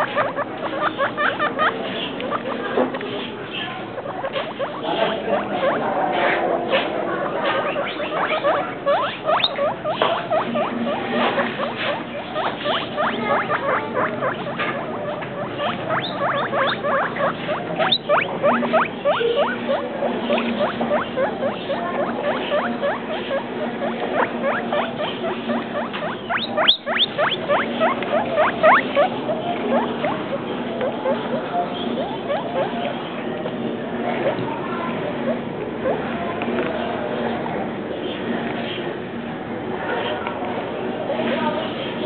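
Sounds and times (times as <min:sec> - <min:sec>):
guinea pigs squeaking: 0:00.0 - 0:33.5, 0:34.1 - 0:34.5, 0:35.1 - 0:37.2, 0:41.1 - 0:42.0.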